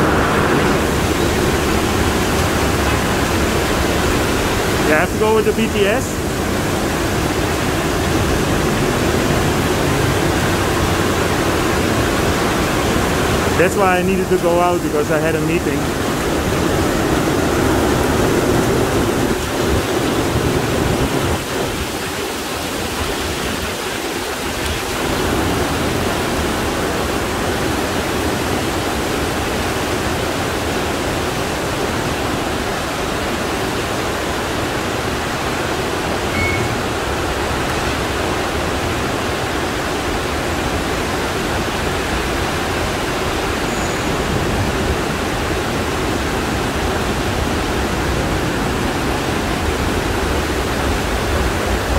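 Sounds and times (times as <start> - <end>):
torrential rain pouring: 0.0 - 51.9.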